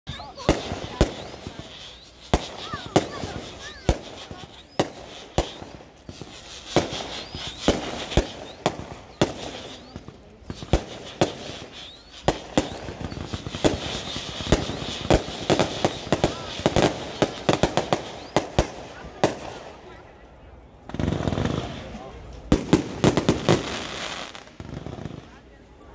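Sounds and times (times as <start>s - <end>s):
firecrackers banging: 0.1s - 25.6s
crowd voices celebrating: 0.1s - 25.9s.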